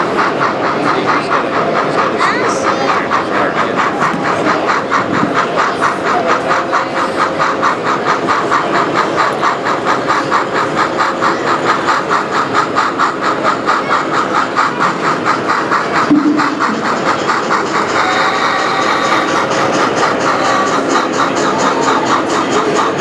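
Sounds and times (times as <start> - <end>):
model train running: 0.0 - 23.0.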